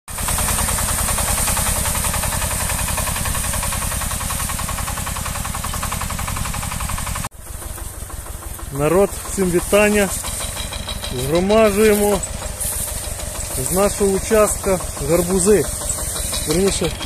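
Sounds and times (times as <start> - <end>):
tractor engine running under load: 0.1 - 17.0.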